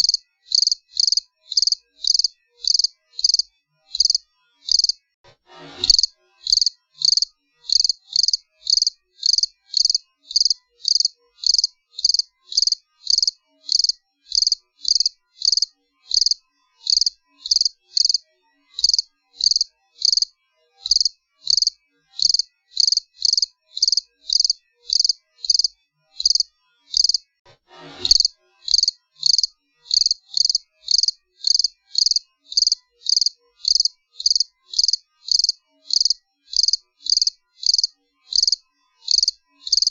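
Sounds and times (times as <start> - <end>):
cricket chirping: 0.0 - 5.0, 5.9 - 18.2, 18.8 - 20.3, 20.9 - 27.2, 28.1 - 39.9.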